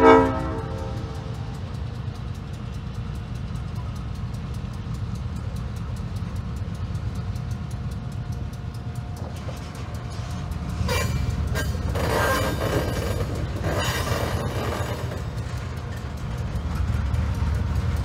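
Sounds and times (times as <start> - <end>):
crossing bell ringing: 0.0 - 18.0
diesel locomotive engine rumbling: 0.0 - 18.0.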